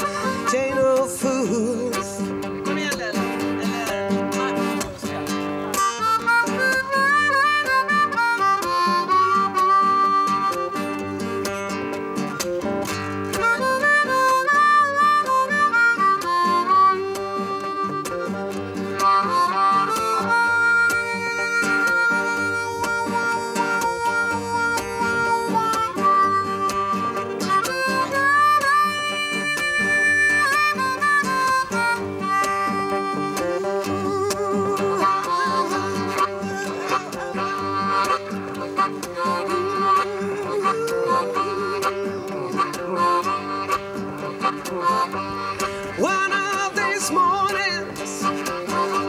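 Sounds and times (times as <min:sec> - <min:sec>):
acoustic guitars strumming: 0:00.0 - 0:49.0
blues harmonica solo: 0:00.0 - 0:49.0.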